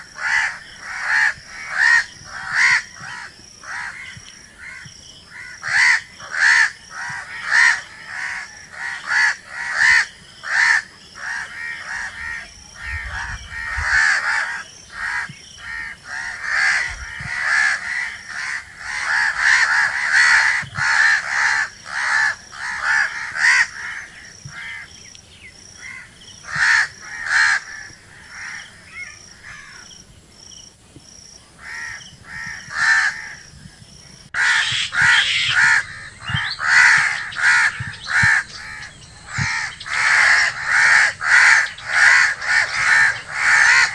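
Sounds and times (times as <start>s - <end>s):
crows cawing: 0.2s - 24.9s, 25.8s - 29.9s, 31.6s - 33.4s, 34.4s - 43.9s.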